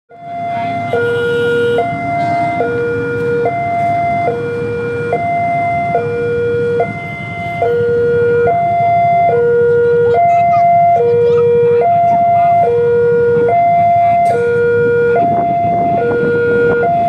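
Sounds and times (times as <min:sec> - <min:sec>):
two-tone siren: 0:00.1 - 0:17.0
steady low rumble: 0:00.2 - 0:17.0.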